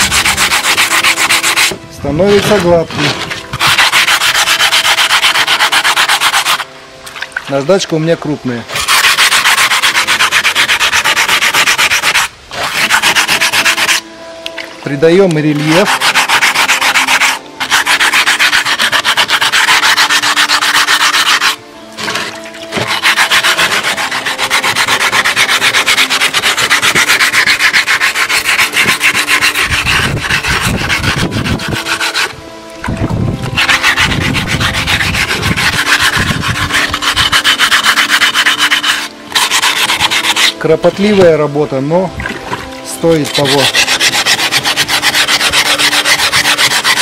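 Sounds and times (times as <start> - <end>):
sandpaper scrubbing on brick: 0.0 - 6.7, 7.5 - 14.1, 15.0 - 41.5, 42.9 - 47.0.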